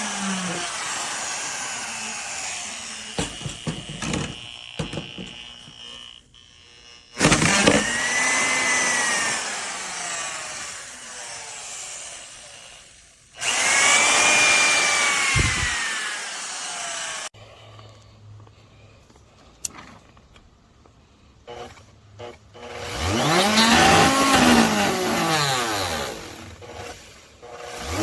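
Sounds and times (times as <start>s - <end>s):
wood router motor whine: 0.0s - 17.3s, 21.5s - 28.0s.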